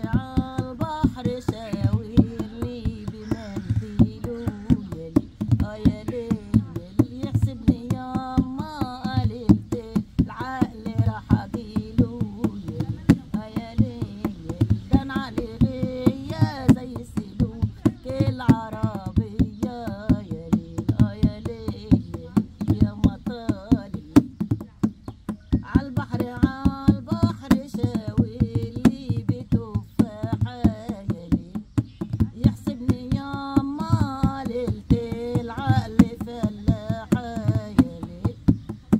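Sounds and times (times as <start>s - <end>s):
woman singing: 0.0s - 24.9s, 25.5s - 38.9s.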